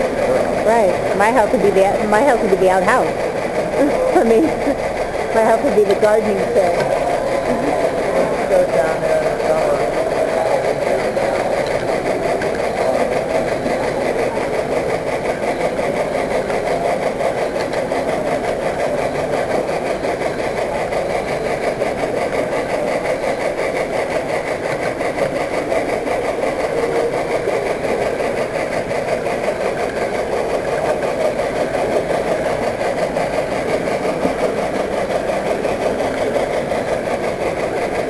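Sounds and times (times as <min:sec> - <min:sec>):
model train wheels rumbling on rail: 0:00.0 - 0:38.0.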